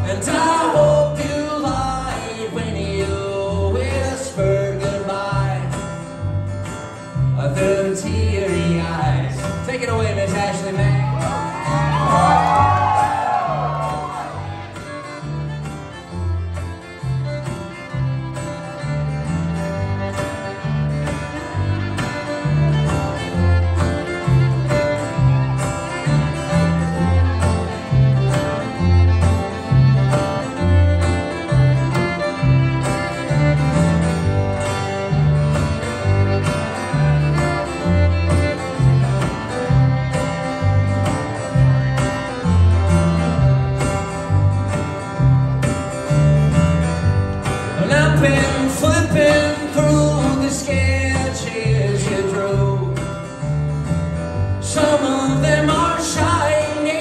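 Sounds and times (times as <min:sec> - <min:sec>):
plucked upright bass: 0:00.0 - 0:57.0
strummed acoustic guitar: 0:00.0 - 0:57.0
fiddle: 0:06.6 - 0:57.0.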